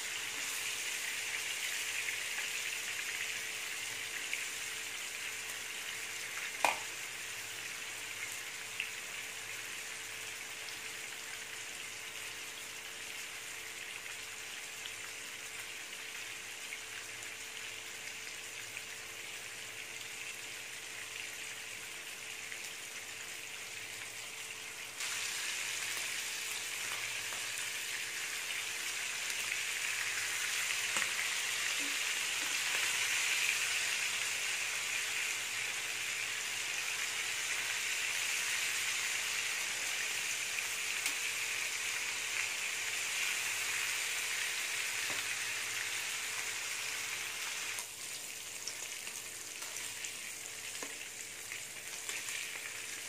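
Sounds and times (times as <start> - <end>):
fish sizzling in oil: 0.0 - 53.0.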